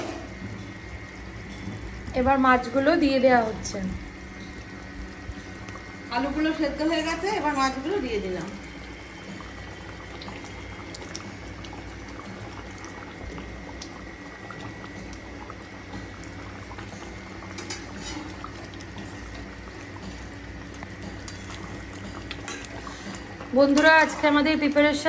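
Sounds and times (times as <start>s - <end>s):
curry simmering and bubbling: 0.0s - 25.0s.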